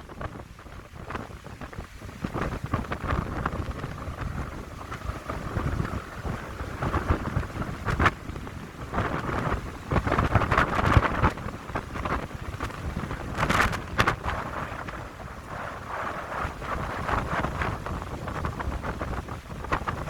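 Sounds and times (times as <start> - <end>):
wind buffeting microphone: 0.0 - 20.0
wind gusting through pines: 0.0 - 20.0.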